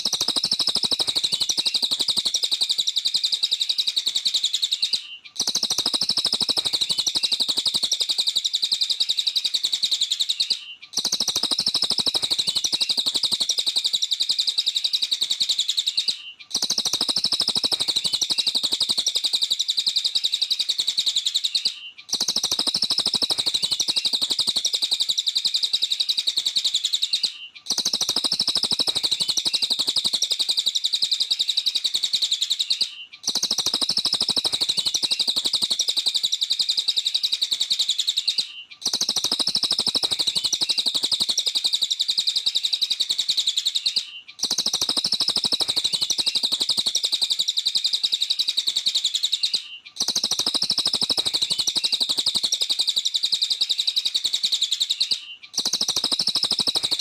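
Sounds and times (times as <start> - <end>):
songbird chattering song: 0.0 - 57.0.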